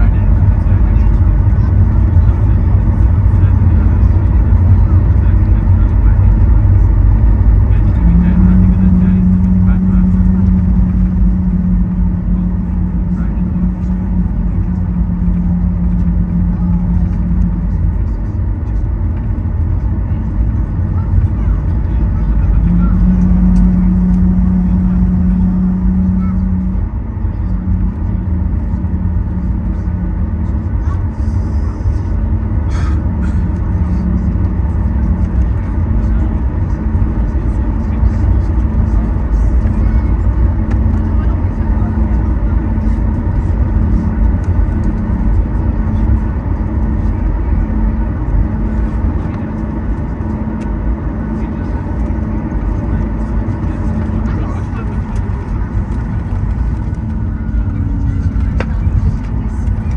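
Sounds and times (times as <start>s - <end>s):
faint pulsing tone: 0.0s - 59.9s
jet engines idling rumble: 0.0s - 59.9s
steady hum: 0.0s - 59.9s.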